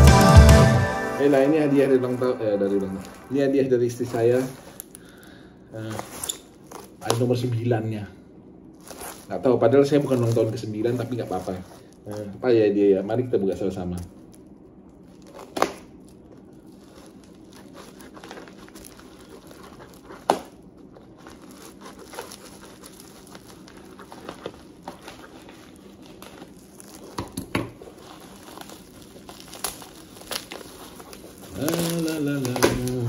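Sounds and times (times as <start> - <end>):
plastic crinkling and rustling: 1.3 - 33.0.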